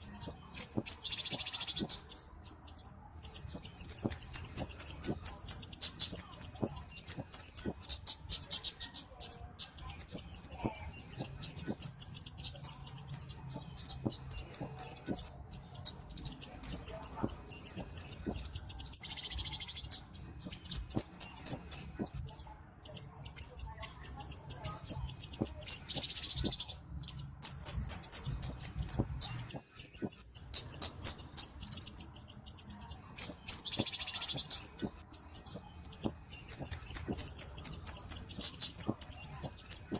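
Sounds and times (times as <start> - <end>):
bird high thin chirps: 0.0 - 39.9.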